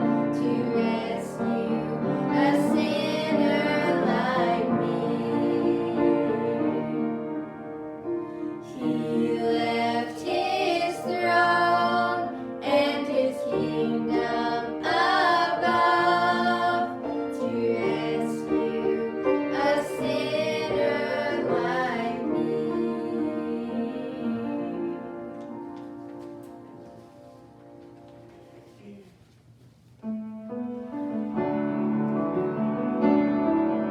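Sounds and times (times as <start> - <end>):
voices singing a hymn: 0.0 - 27.6.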